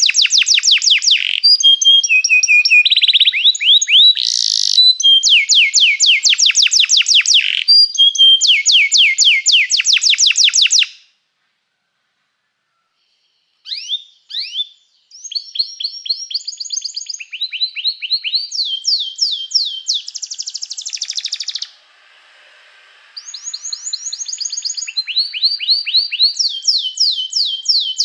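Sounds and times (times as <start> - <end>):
canary singing trills: 0.0 - 11.0, 13.0 - 21.8, 23.2 - 28.0.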